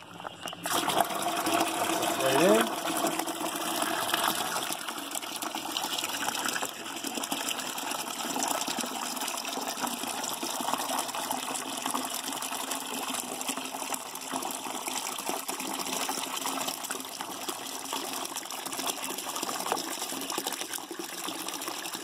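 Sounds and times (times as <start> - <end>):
juice pouring and splashing: 0.0 - 22.0.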